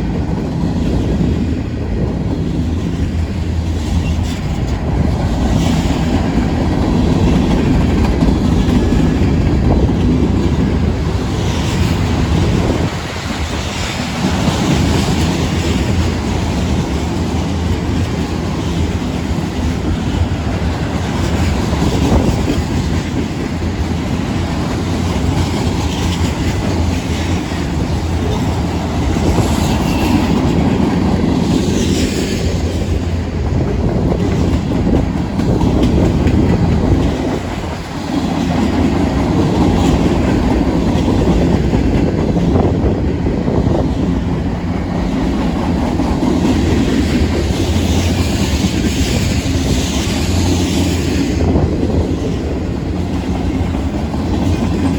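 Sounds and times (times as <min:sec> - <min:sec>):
freight train rumbling past: 0:00.0 - 0:54.9
wheels clattering on rails: 0:00.0 - 0:54.9.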